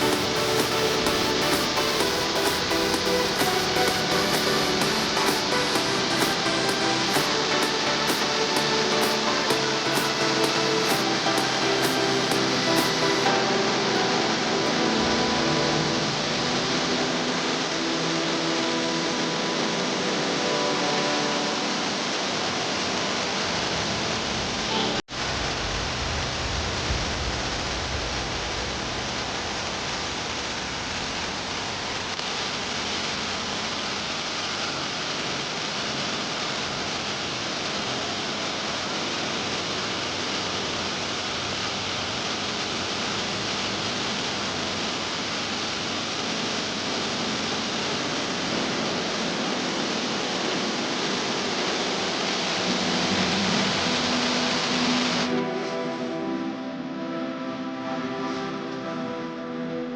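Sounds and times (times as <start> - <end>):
falling water rushing: 0.0 - 56.3.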